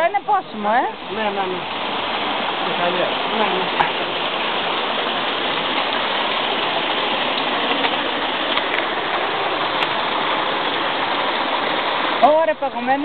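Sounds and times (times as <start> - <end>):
running water gushing: 0.0 - 13.0.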